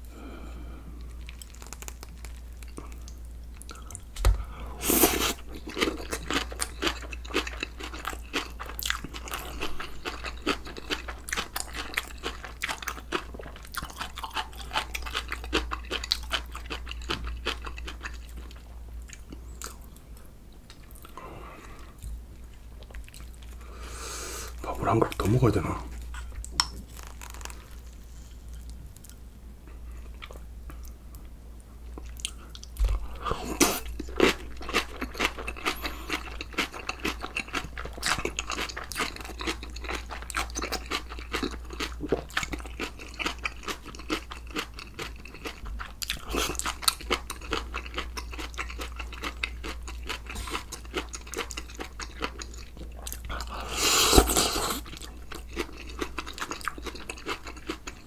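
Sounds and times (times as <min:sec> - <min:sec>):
crunching crisp vegetables: 0:01.0 - 0:19.8, 0:24.6 - 0:29.2, 0:32.0 - 0:58.0.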